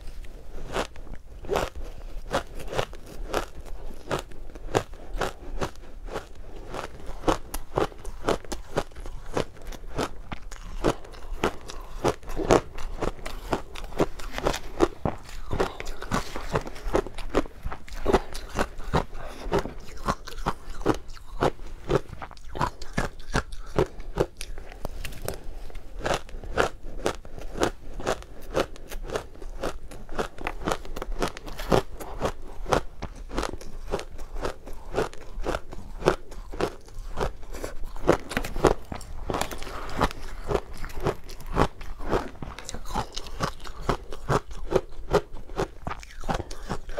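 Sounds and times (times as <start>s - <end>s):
chewing crunchy shaved ice: 0.0s - 46.9s.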